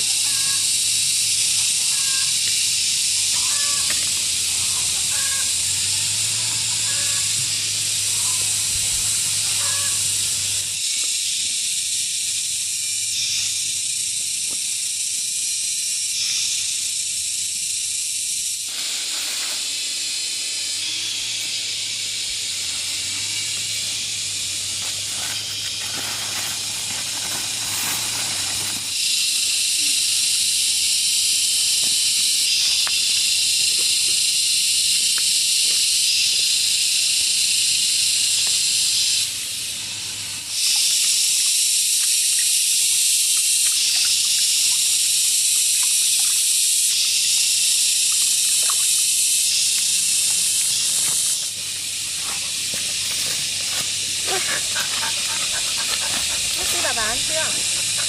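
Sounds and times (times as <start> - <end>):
steady high-pitched hiss: 0.0 - 58.0.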